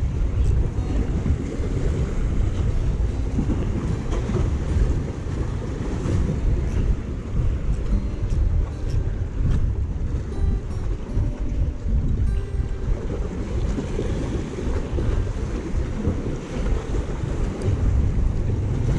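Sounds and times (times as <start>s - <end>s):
waves washing against concrete: 0.0s - 18.9s
wind buffeting microphone: 0.0s - 18.9s.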